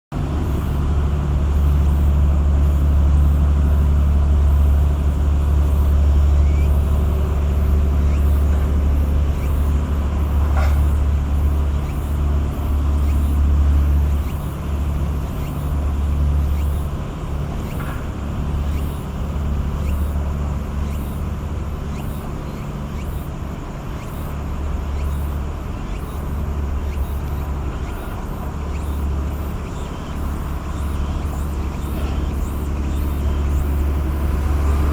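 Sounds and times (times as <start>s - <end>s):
tugboat diesel engines droning: 0.2s - 34.9s.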